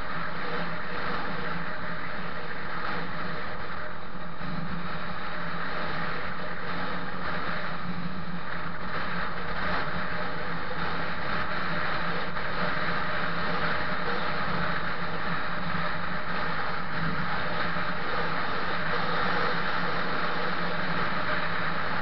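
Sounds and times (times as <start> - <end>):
steady low hum: 0.0 - 22.0
wind and road noise: 0.0 - 22.0.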